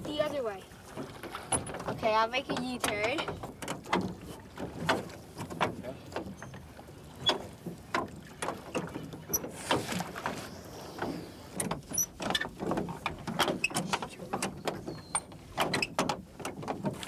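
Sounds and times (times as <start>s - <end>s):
oars knocking in oarlocks: 0.0s - 6.6s, 7.2s - 17.0s.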